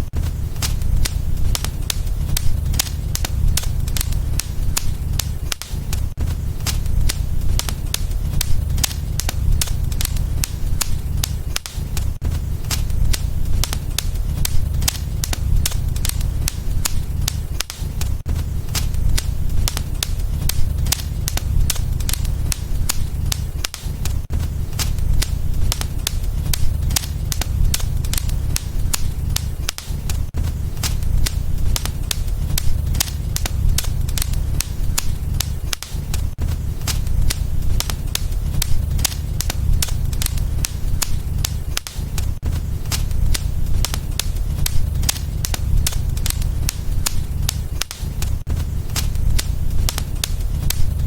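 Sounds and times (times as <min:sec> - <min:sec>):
fire pops and snaps: 0:00.0 - 0:51.0
flames rumbling: 0:00.0 - 0:51.0.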